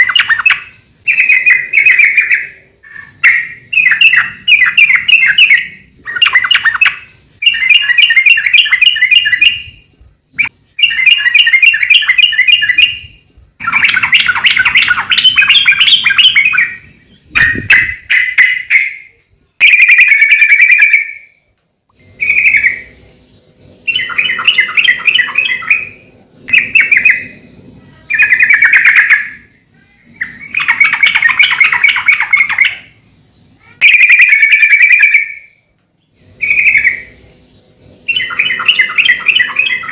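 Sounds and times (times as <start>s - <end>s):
bulbul singing chattering phrases: 0.0s - 21.4s, 22.0s - 39.9s.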